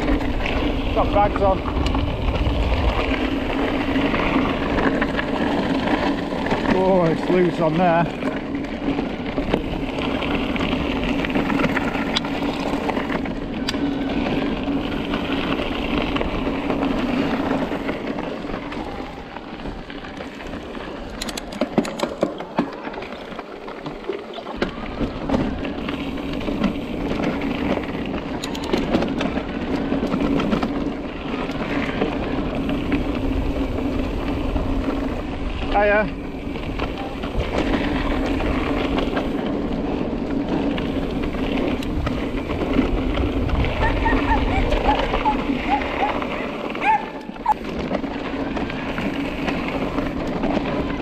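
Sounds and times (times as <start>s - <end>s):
bike clicks and rattles: 0.0s - 51.0s
bike tyres rolling on trail: 0.0s - 51.0s.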